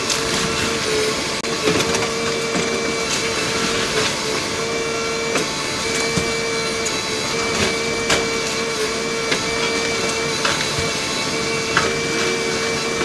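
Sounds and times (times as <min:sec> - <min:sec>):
high-pitched machine hum: 0:00.0 - 0:13.0.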